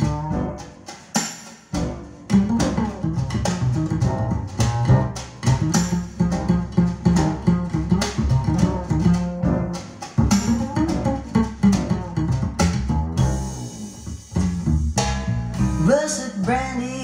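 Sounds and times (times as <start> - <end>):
double bass line: 0.0 - 1.0, 1.7 - 17.0
guitar: 0.0 - 17.0.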